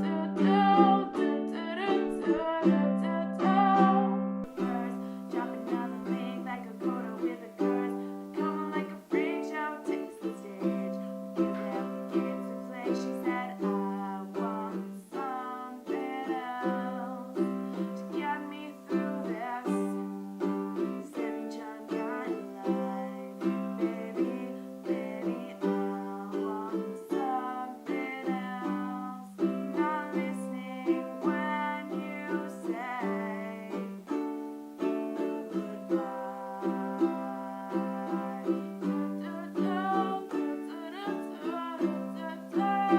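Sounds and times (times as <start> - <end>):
plucked string instrument: 0.0 - 42.9.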